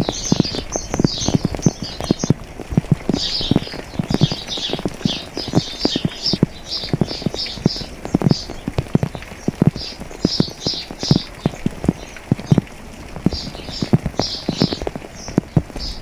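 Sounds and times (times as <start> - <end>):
raindrops dripping on hard surface: 0.0 - 16.0
songbird chirping: 0.0 - 16.0.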